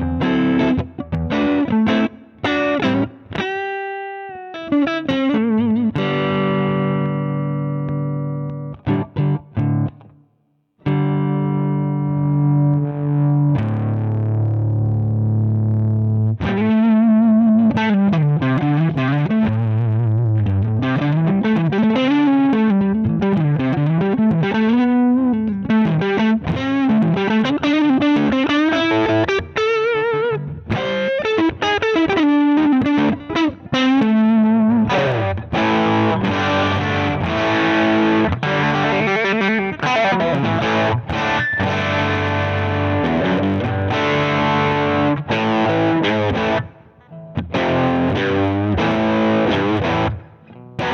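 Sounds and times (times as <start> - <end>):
overdriven electric guitar: 0.0 - 10.2, 10.8 - 50.9.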